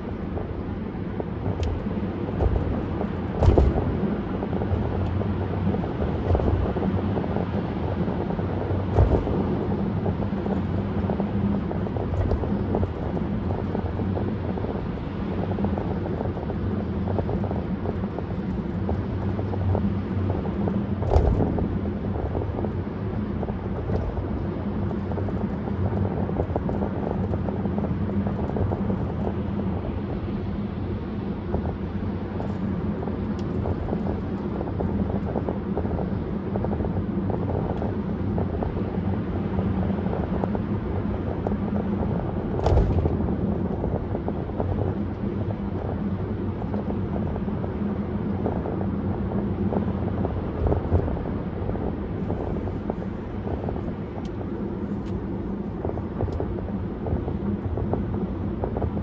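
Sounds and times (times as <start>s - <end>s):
car driving at highway speed: 0.0s - 59.0s
droning tyre rumble: 0.0s - 59.0s.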